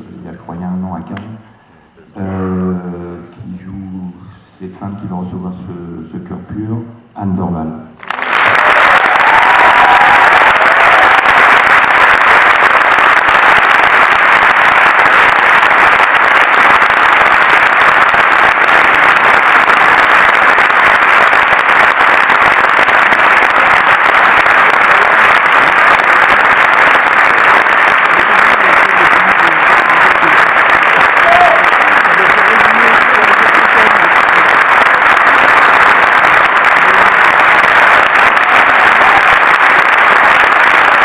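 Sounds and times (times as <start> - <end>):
audience applauding: 8.0 - 41.0.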